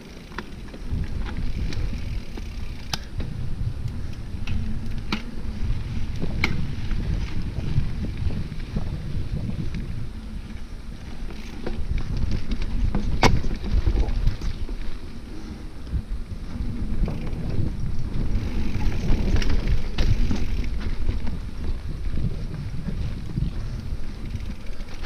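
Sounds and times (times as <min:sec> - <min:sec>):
bike clicks and rattles: 0:00.0 - 0:25.0
bike tyres rumbling over dirt: 0:00.0 - 0:25.0
wind buffeting on microphone: 0:00.6 - 0:25.0.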